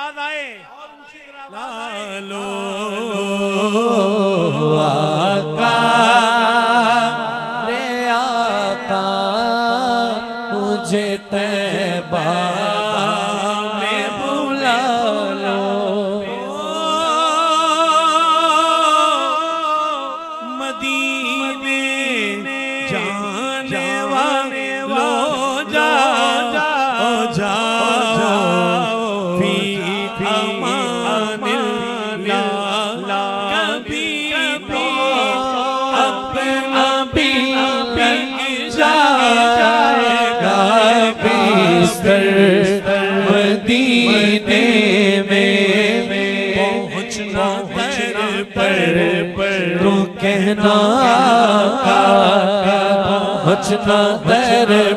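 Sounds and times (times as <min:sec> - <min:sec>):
man singing into microphone: 0:00.0 - 0:54.9.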